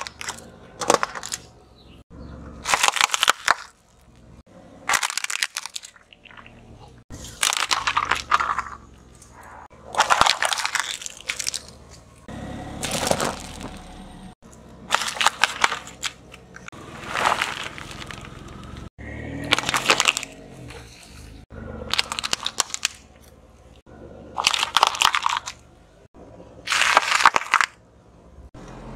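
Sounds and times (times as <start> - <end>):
car tyre crushing small objects: 0.0 - 27.9.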